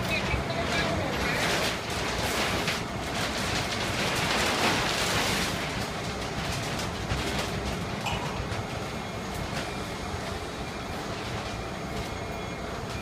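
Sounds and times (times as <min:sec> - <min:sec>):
plastic liner rustling and crackling: 0:00.0 - 0:13.0.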